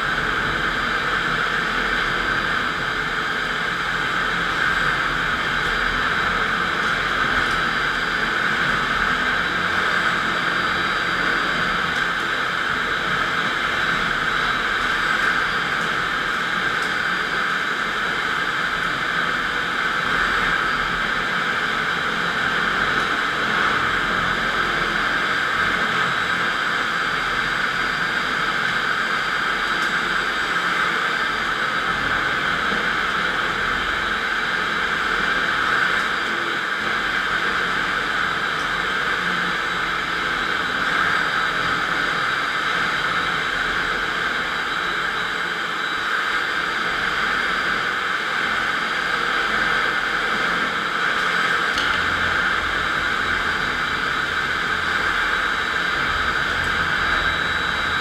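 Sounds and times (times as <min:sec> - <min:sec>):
concrete floor grinder running: 0:00.0 - 0:58.0.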